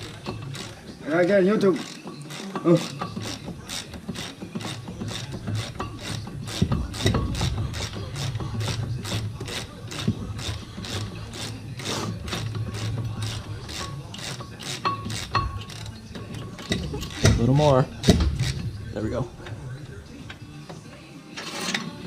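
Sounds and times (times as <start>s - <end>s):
hand ratchet clicking: 0.0s - 18.7s.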